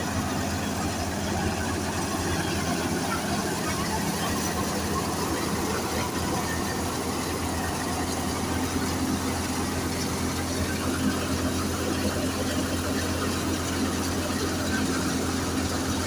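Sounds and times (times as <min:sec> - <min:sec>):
thresher machine droning: 0:00.0 - 0:16.0.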